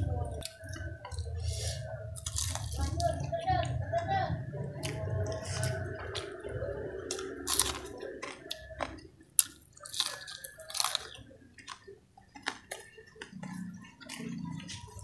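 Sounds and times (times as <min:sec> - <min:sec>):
crunchy chewing and biting: 0:00.0 - 0:04.1, 0:04.7 - 0:15.0.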